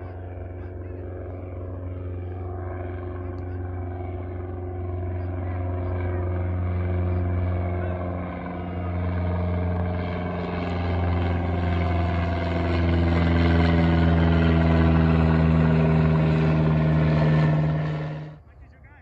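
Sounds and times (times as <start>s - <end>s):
light plane droning overhead: 0.0s - 19.0s.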